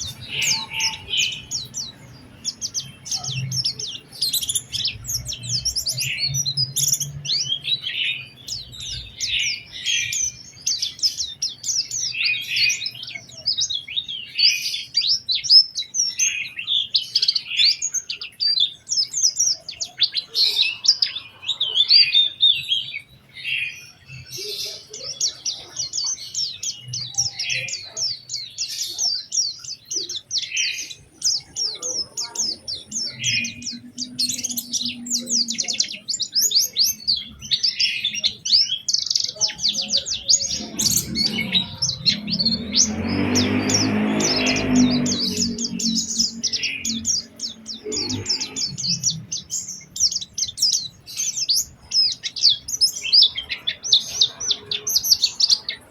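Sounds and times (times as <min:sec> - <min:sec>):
bird chirping and trilling: 0:00.0 - 0:55.9.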